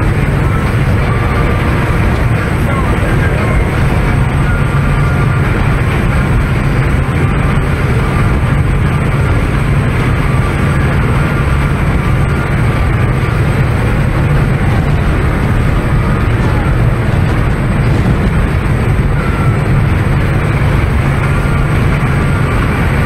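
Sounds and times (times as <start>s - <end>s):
boat engines running: 0.0s - 23.0s
wind buffeting microphone: 0.0s - 23.0s.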